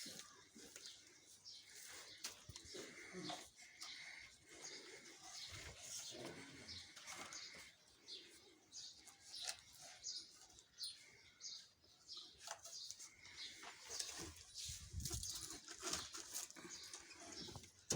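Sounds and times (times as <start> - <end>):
faint birds chirping: 0.0 - 17.9.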